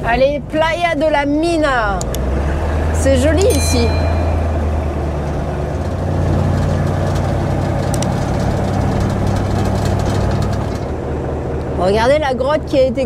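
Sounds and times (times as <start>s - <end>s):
road noise on gravel: 0.0s - 13.0s
truck diesel engine running: 0.0s - 13.0s.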